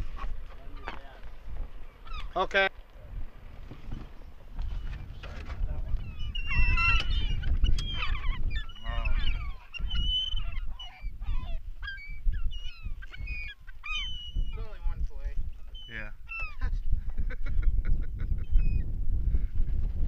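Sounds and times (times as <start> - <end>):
gulls calling: 0.0 - 2.9, 3.9 - 18.9.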